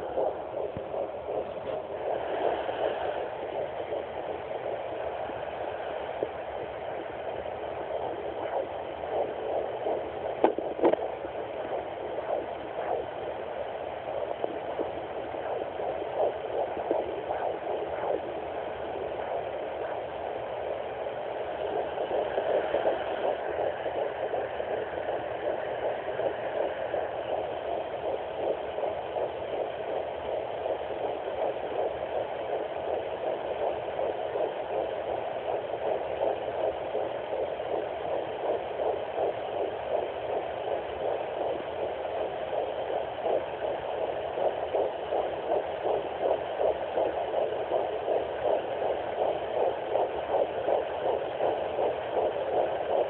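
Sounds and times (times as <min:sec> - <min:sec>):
fetal heartbeat on doppler: 0:00.0 - 0:53.0
steady doppler probe noise: 0:00.0 - 0:53.0.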